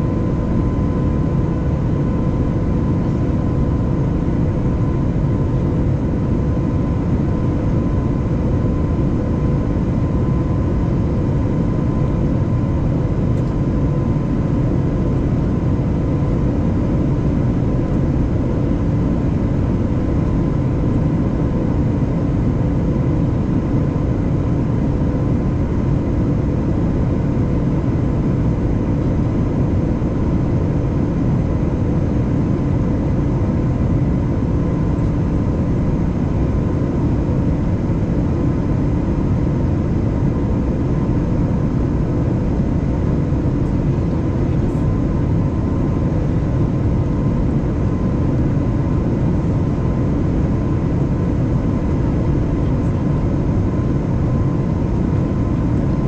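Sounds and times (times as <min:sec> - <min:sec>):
faint steady hum tones: 0:00.0 - 0:56.0
jet cabin low rumble: 0:00.0 - 0:56.0.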